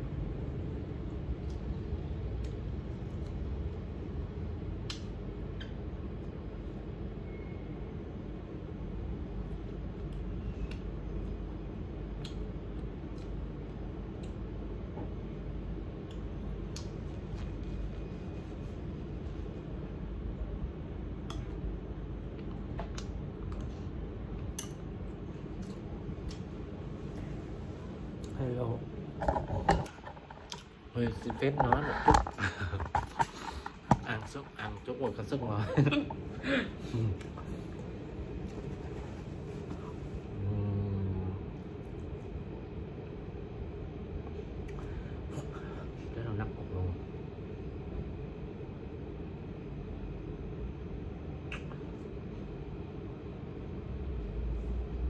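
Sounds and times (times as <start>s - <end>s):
low background rumble: 0.0s - 55.0s.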